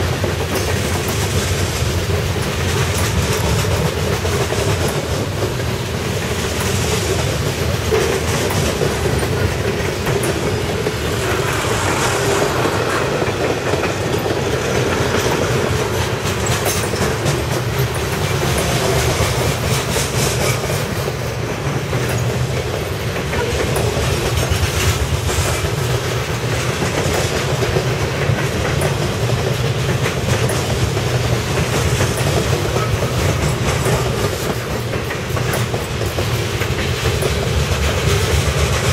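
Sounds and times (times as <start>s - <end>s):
train wheels rumbling on rail: 0.0s - 38.9s
wheels clicking over rail joints: 0.0s - 38.9s.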